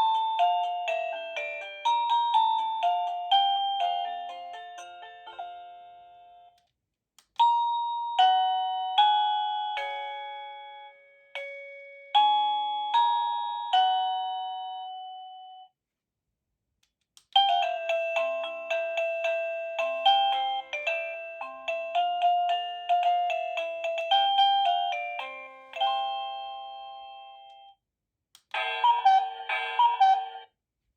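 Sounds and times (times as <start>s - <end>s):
doorbell chime melody: 0.0s - 6.6s, 7.4s - 15.8s, 17.4s - 27.8s, 28.6s - 30.5s.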